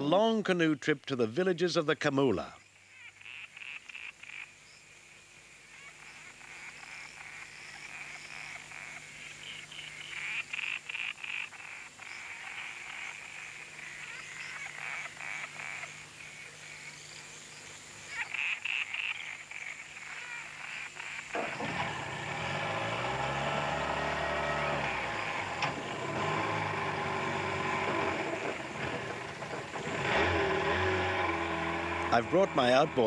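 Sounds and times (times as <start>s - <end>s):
frogs trilling: 0.0s - 33.0s
rapid clicking frog calls: 2.4s - 33.0s.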